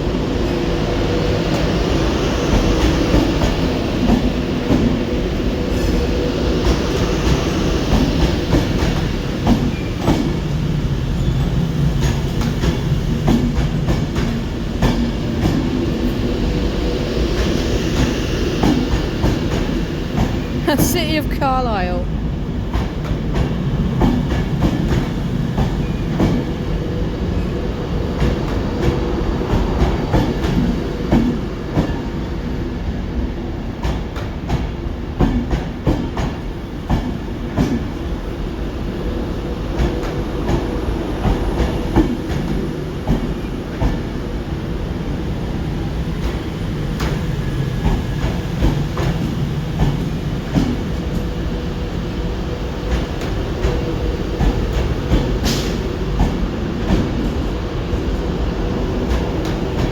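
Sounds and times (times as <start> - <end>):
train rumbling on track: 0.0 - 20.6, 22.4 - 59.9.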